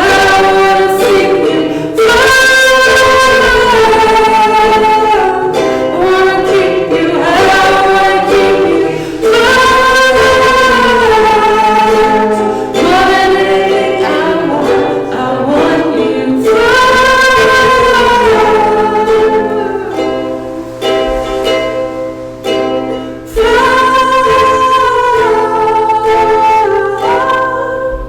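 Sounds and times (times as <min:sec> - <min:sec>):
instrumental accompaniment: 0:00.0 - 0:28.0
voices singing: 0:00.0 - 0:28.0.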